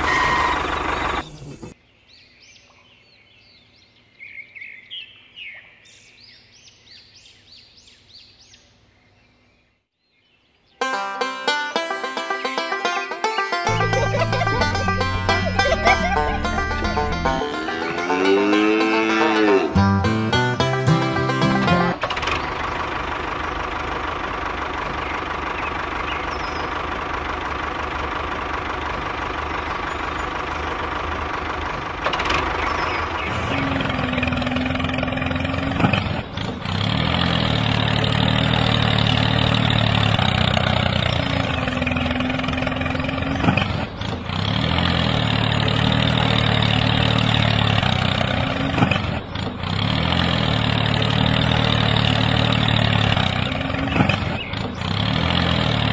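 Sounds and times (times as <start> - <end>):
tractor engine running: 0.0 - 1.8, 10.8 - 55.9.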